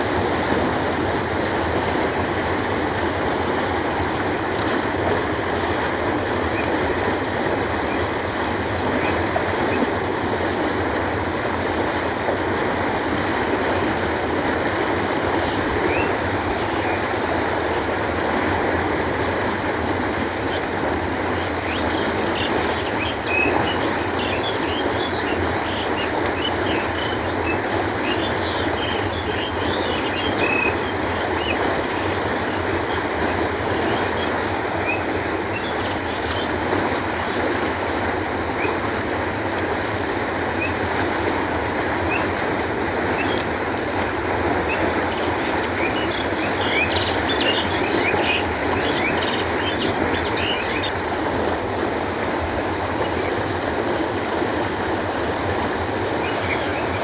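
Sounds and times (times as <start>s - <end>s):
water rushing along a canal: 0.0s - 57.0s.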